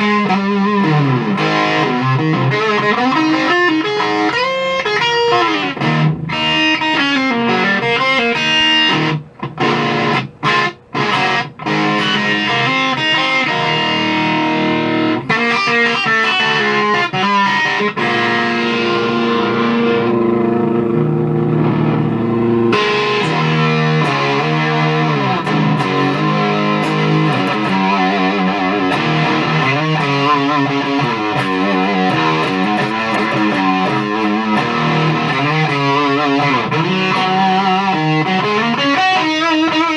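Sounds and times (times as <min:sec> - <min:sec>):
fuzzy electric guitar riffs: 0:00.0 - 0:39.9.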